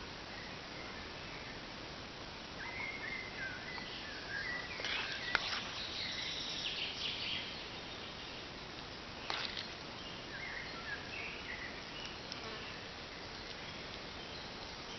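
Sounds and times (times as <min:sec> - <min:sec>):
background hiss: 0:00.0 - 0:14.9
small birds chirping: 0:02.6 - 0:14.9.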